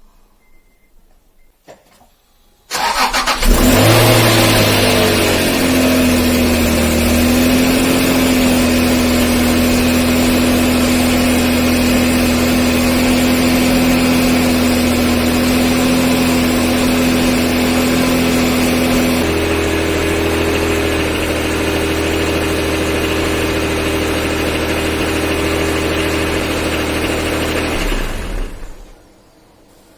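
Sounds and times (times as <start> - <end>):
car engine fast idle: 2.7 - 29.1.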